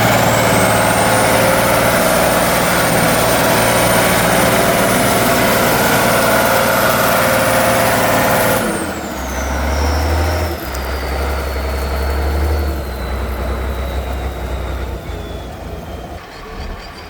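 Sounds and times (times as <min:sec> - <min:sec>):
heavy truck engine running: 0:00.0 - 0:17.0.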